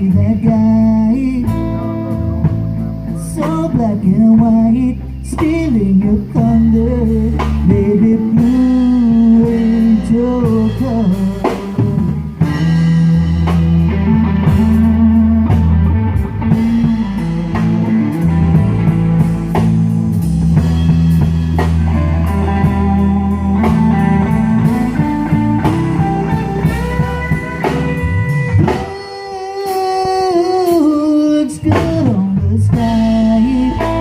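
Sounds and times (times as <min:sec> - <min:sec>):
bass: 0:00.0 - 0:34.0
drums: 0:00.0 - 0:34.0
lead guitar: 0:00.0 - 0:34.0.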